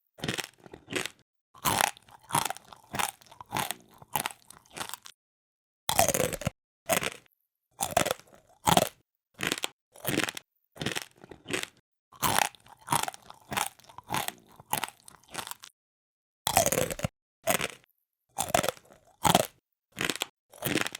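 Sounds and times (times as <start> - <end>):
crunchy chewing: 0.2 - 5.2, 5.9 - 15.8, 16.5 - 20.9.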